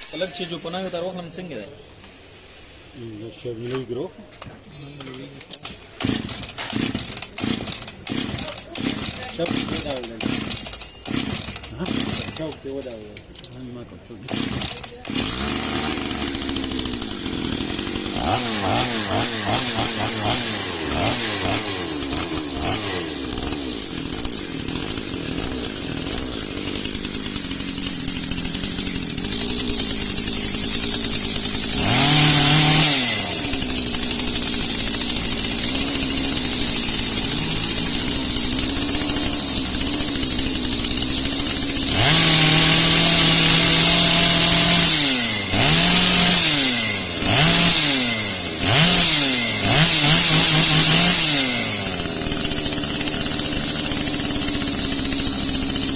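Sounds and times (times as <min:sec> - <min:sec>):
chainsaw engine idling and revving: 0:05.5 - 0:55.9.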